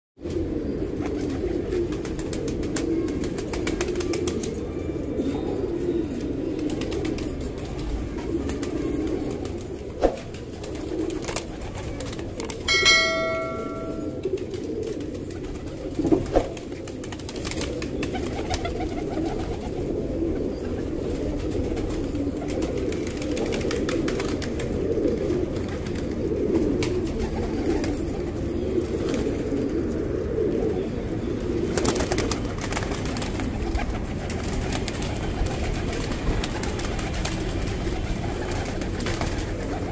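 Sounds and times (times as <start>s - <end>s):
pigeons cooing: 0.2s - 39.9s.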